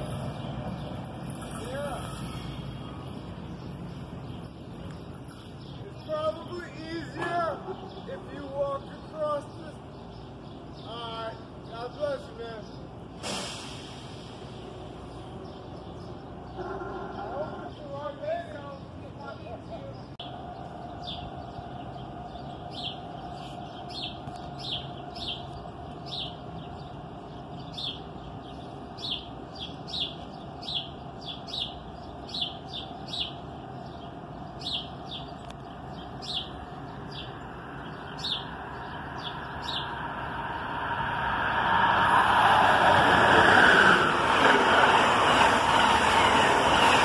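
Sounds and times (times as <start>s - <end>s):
bird chirping: 0.0s - 13.0s, 15.0s - 40.8s
passenger train passing: 0.0s - 19.6s, 20.2s - 47.0s.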